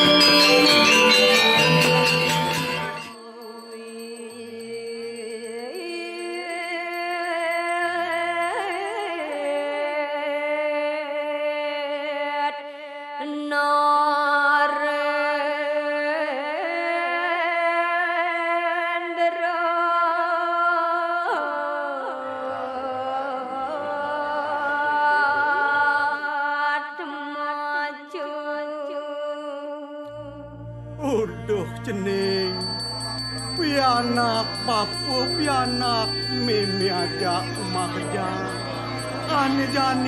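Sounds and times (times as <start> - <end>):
person singing a slow chant: 3.1 - 40.0.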